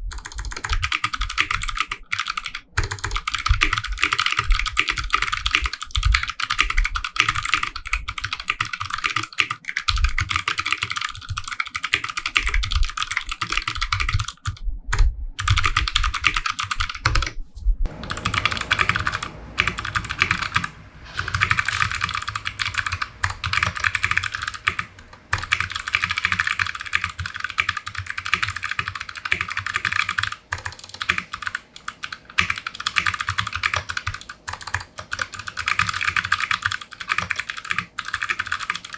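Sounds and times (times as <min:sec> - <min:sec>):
mechanical keyboard typing: 0:00.1 - 0:17.3, 0:17.9 - 0:38.9.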